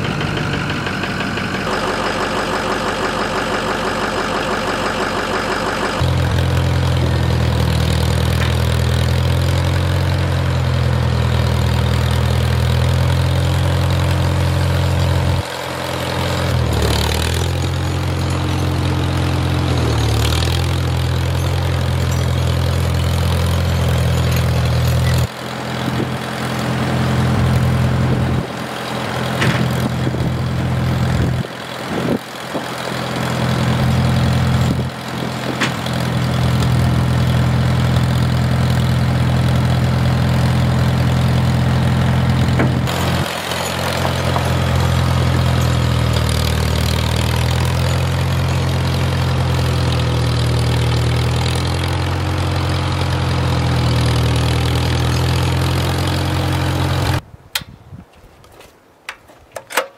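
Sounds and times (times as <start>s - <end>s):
engine running: 0.0s - 57.2s.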